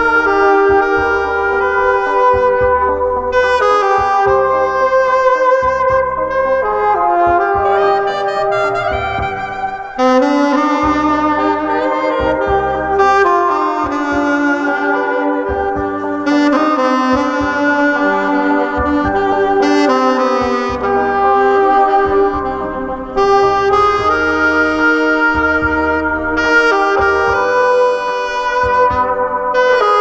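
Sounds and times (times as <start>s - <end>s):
backing track with bass: 0.0s - 30.0s
saxophone melody: 0.0s - 30.0s.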